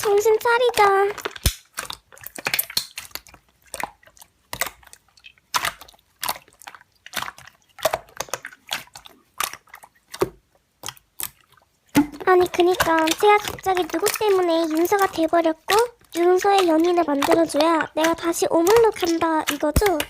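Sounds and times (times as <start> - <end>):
slime squished by hand: 0.0 - 20.0.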